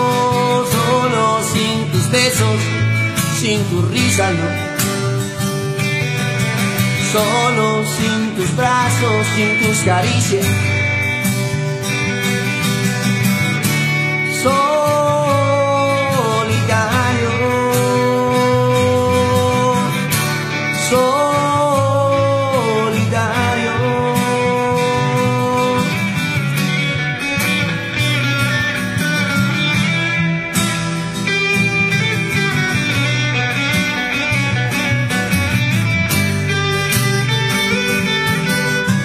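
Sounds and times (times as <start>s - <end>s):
rock guitars and bass: 0.0s - 39.0s
sliding lead guitar line: 0.0s - 39.0s.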